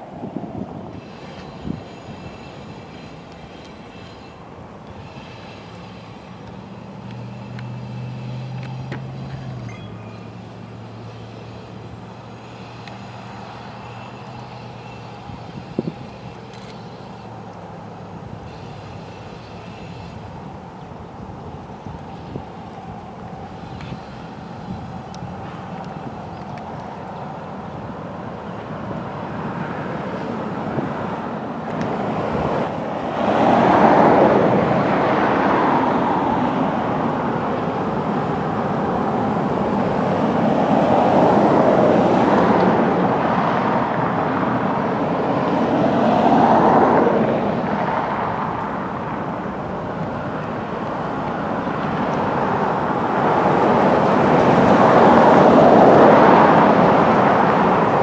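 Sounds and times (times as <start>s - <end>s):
diesel locomotive engines: 0.0s - 58.0s.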